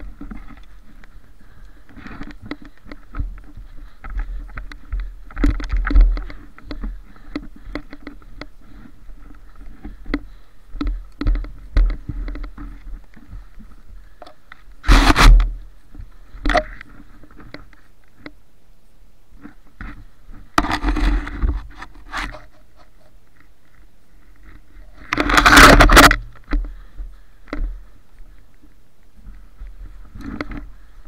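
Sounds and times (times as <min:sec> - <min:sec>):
clothing and gear rustling: 0:00.0 - 0:18.2, 0:19.3 - 0:31.0.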